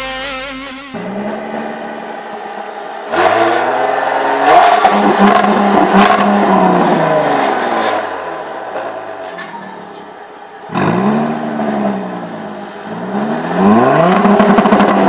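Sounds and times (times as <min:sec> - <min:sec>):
car engine revving: 0:00.0 - 0:15.0
exhaust cracks: 0:00.0 - 0:15.0.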